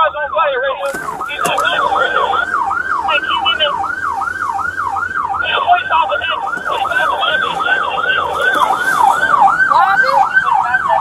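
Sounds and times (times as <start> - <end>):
siren yelping: 0.0 - 11.0.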